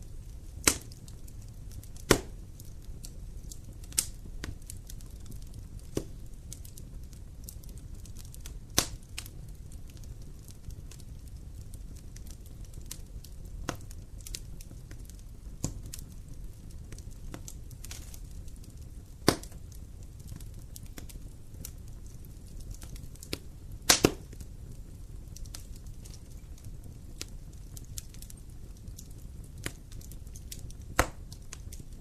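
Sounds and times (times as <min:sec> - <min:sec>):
campfire crackling: 0:00.0 - 0:32.0
fire popping: 0:00.0 - 0:32.0.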